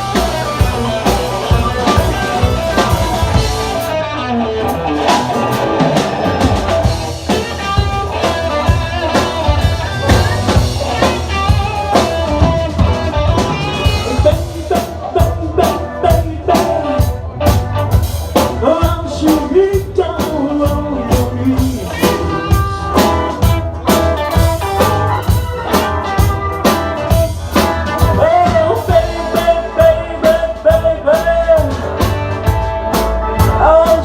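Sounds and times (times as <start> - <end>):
drum kit: 0.0 - 34.0
guitar: 0.0 - 34.0.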